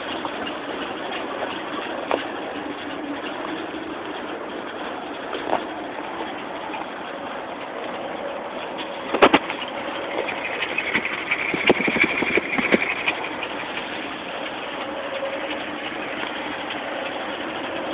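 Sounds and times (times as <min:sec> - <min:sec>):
engine idling at exhaust: 0:00.0 - 0:17.9.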